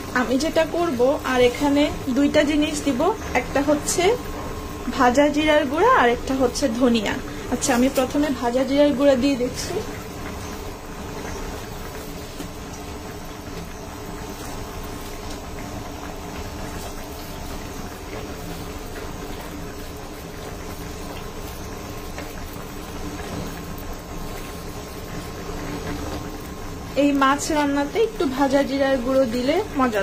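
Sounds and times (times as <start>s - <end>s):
curry bubbling in a wok: 0.0s - 30.0s.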